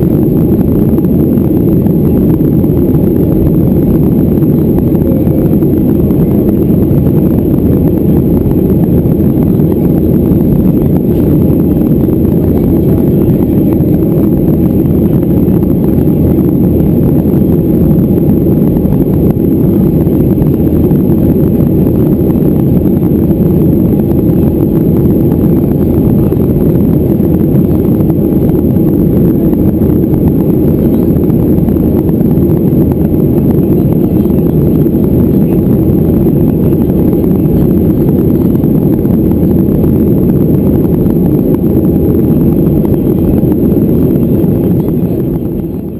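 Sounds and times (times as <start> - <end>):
aircraft cabin engine rush: 0.0 - 45.9
airflow over fuselage: 0.0 - 45.9.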